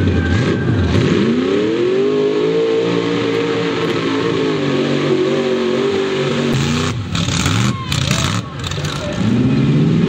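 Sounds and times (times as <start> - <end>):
buggy engine revving high: 0.0 - 10.0.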